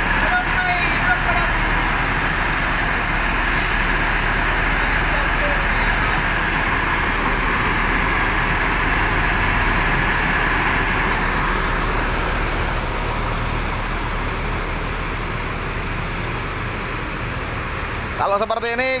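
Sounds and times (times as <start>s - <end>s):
diesel bus engine idling roughly: 0.0s - 19.0s.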